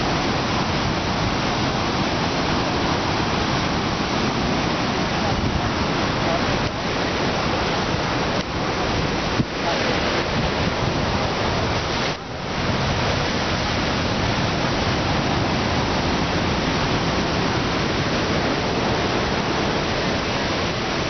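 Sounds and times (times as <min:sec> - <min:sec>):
heavy surf breaking: 0:00.0 - 0:21.0.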